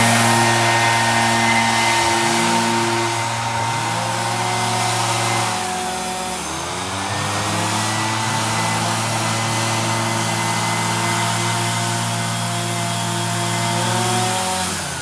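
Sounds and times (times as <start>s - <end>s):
small two-stroke engine running: 0.0s - 15.0s.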